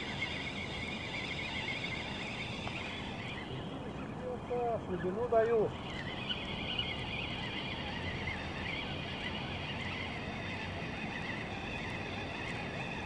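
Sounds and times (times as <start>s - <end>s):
low outdoor hiss: 0.0s - 13.0s
small birds twittering: 0.0s - 13.0s.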